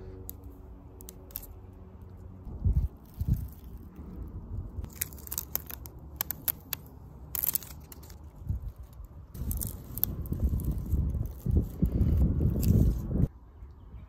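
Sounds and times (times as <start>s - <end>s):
low rumble: 0.0s - 13.3s
plastic tape crinkling and crackling: 0.3s - 13.2s.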